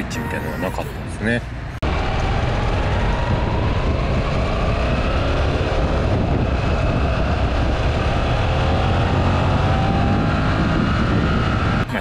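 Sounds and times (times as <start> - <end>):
wind and road noise: 0.0 - 12.0
motorcycle engine accelerating: 2.0 - 11.9.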